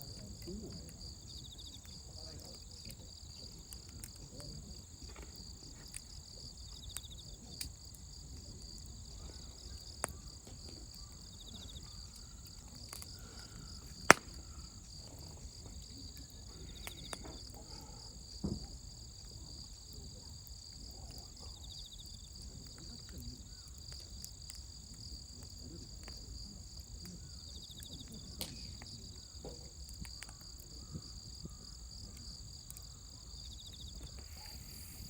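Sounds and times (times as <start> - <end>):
insects chirring: 0.0 - 35.0
wood fire crackling and popping: 0.0 - 35.0.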